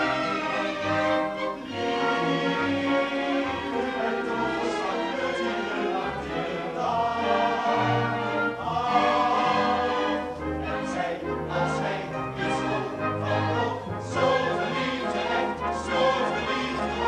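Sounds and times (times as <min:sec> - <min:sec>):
chorus singing: 0:00.0 - 0:17.0
orchestra playing: 0:00.0 - 0:17.0.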